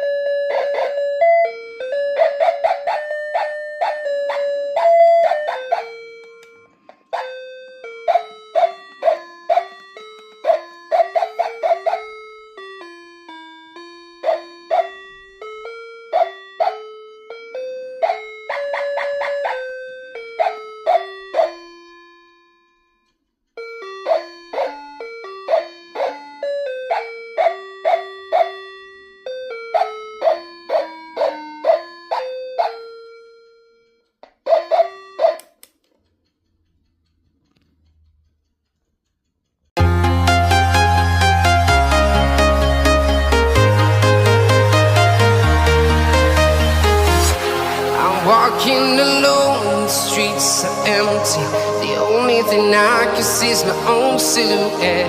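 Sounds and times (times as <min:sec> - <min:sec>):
chiming bell-like melody: 0:00.0 - 0:23.0, 0:23.6 - 0:34.0, 0:39.8 - 0:55.0.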